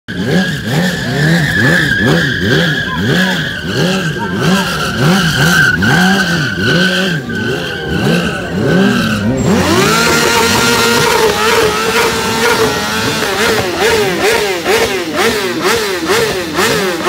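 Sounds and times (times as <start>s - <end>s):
motorcycle engine revving: 0.1s - 17.0s
tyre squealing on asphalt: 0.1s - 17.0s.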